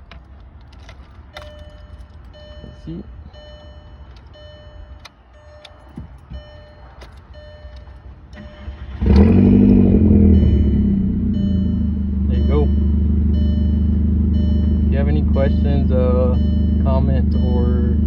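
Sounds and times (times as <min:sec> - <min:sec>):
car engine starting and idling: 0:00.0 - 0:18.0
car electronic chime: 0:00.8 - 0:18.0.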